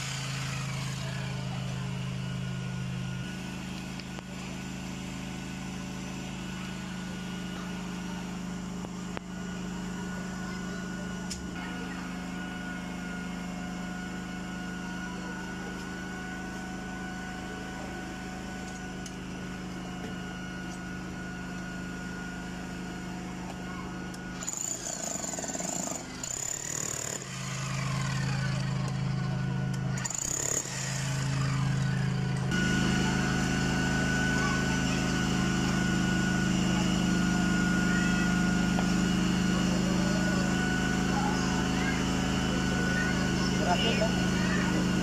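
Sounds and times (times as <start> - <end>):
engine humming steadily: 0.0 - 45.0.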